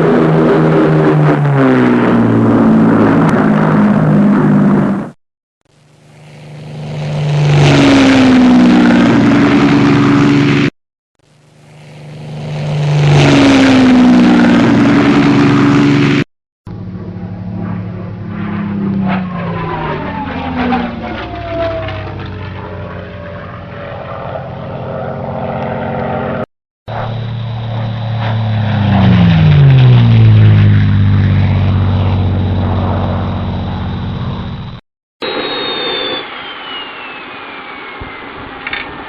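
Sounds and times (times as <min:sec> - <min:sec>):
aircraft engine passing: 0:00.0 - 0:05.2, 0:05.8 - 0:10.7, 0:11.5 - 0:39.0
aircraft engine whine: 0:00.0 - 0:39.0.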